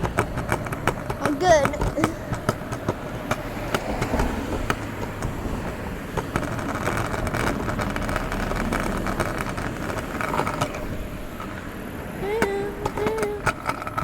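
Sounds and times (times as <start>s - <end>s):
skateboard wheels clicking over cracks: 0.0s - 14.0s
skateboard wheels rolling on pavement: 0.0s - 14.0s.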